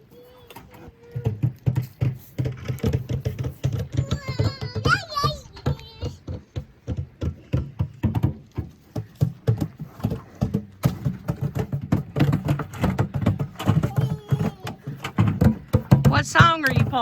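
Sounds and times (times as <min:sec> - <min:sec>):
children banging makeshift percussion: 0:00.1 - 0:17.0.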